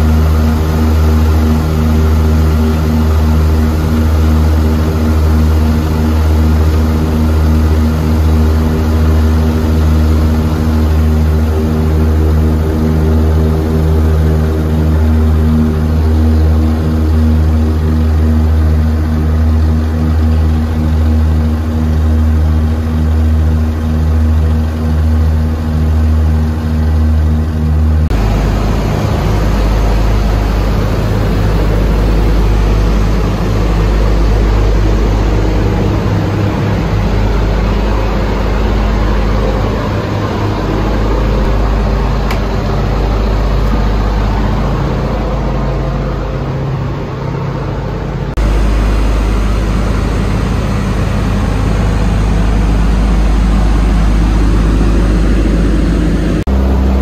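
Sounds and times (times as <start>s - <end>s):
propeller engines droning: 0.0s - 57.0s.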